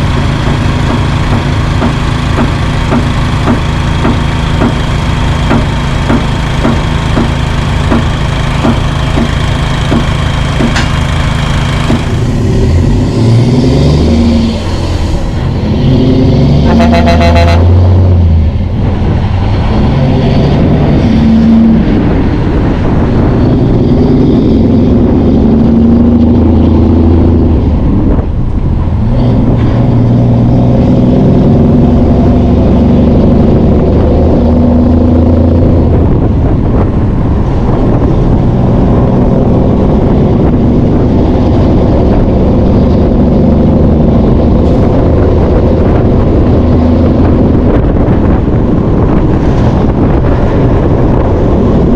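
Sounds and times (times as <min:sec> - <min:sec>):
large diesel engine under load: 0:00.0 - 0:51.9.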